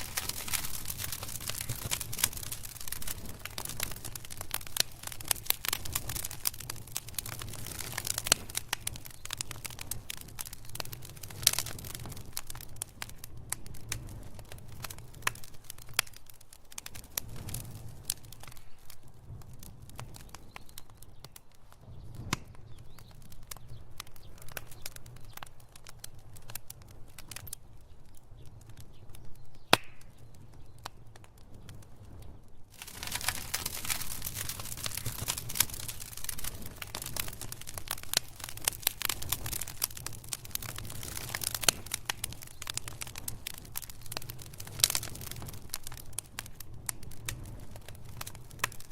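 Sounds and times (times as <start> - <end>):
fire flames rumbling: 0.0 - 48.9
sharp pops of burning wood: 0.0 - 48.9
wood fire crackling: 0.0 - 48.9.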